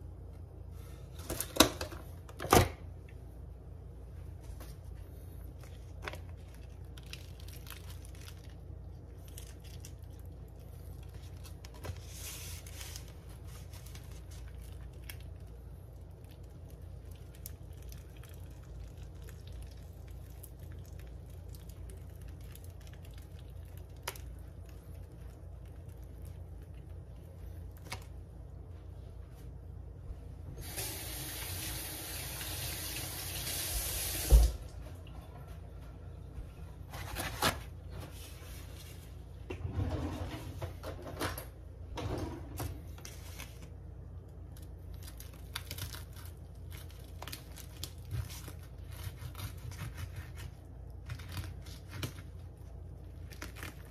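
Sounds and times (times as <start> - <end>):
steady low hum: 0.0 - 30.8, 34.4 - 53.9.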